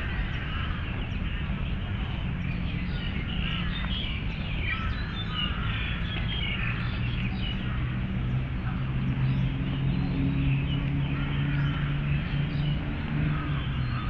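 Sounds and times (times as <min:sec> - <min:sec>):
birds chirping: 0:00.0 - 0:14.0
city traffic hum: 0:00.0 - 0:14.0
engine drone: 0:00.0 - 0:14.0.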